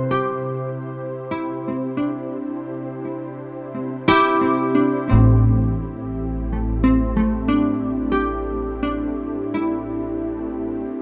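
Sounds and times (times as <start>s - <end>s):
gentle new-age music: 0.0s - 11.0s.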